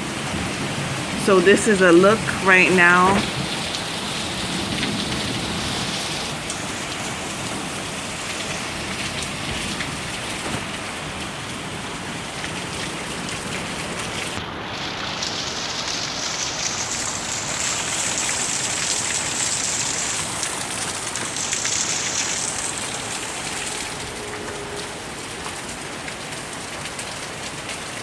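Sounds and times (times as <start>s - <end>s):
rain falling as an even hiss: 0.0s - 28.0s.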